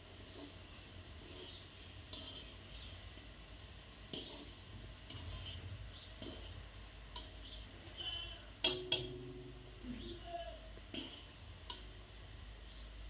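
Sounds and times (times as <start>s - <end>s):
oil bubbling and sizzling: 0.0s - 13.0s
skimmer tapping metal pan rim: 0.3s - 3.5s, 4.1s - 12.1s.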